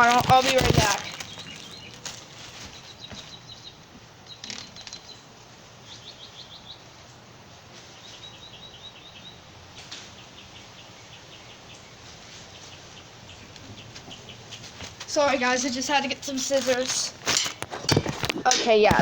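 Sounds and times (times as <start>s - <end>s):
small bird chirping: 0.0s - 17.2s
faint background noise: 0.0s - 19.0s.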